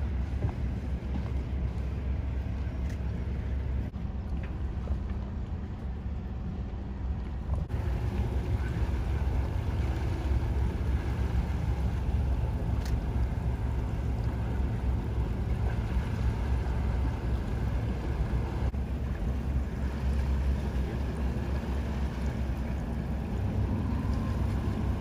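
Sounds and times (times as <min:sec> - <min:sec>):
boat motor rumbling: 0:00.0 - 0:25.0.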